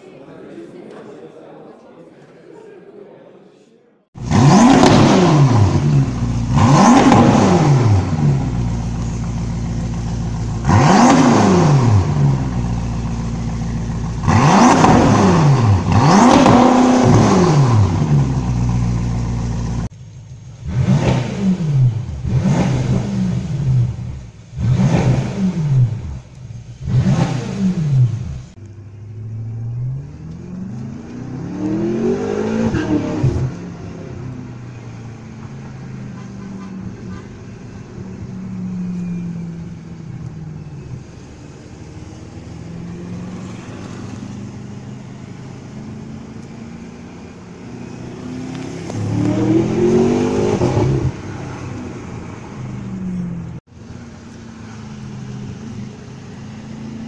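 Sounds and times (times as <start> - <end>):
car engine revving: 4.2 - 57.0.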